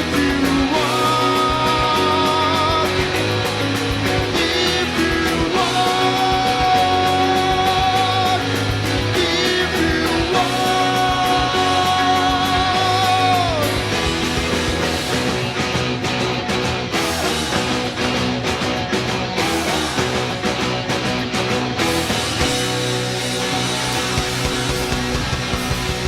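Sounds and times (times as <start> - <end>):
lead guitar held notes: 0.0 - 26.0
rock band playing: 0.0 - 26.0.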